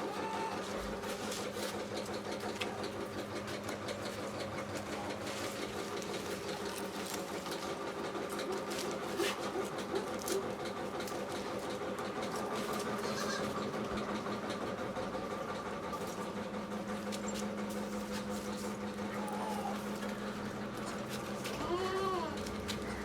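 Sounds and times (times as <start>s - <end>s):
small motor humming and rattling: 0.0s - 23.0s.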